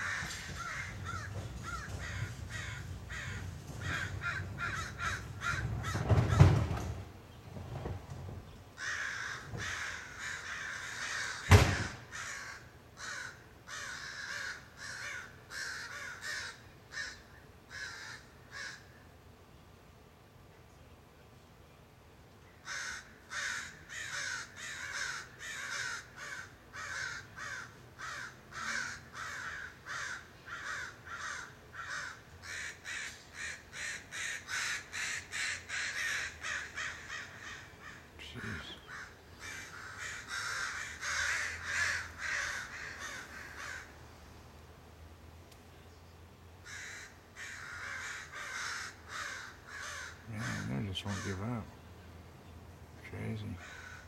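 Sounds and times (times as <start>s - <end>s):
crows cawing: 0.0s - 6.7s, 8.8s - 19.0s, 22.6s - 44.0s, 46.6s - 51.7s, 53.1s - 54.0s.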